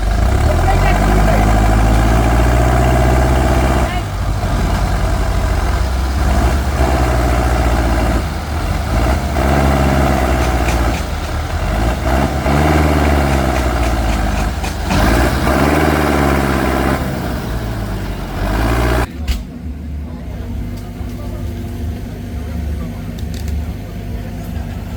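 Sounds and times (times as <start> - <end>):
tractor engine revving: 0.0 - 24.9.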